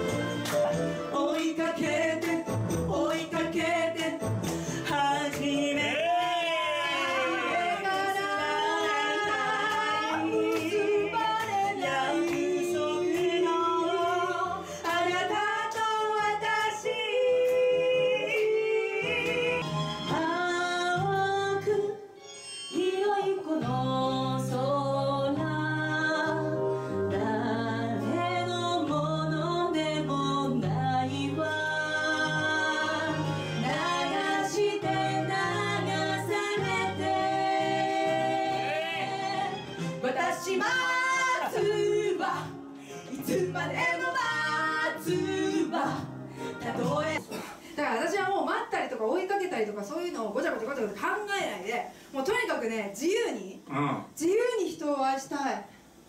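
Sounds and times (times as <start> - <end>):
vocal group singing in harmony: 0.0 - 21.8, 22.8 - 47.4.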